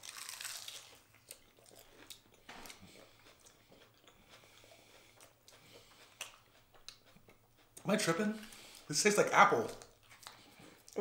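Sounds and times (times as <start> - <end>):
chewing crunchy onion ring: 0.0 - 11.0.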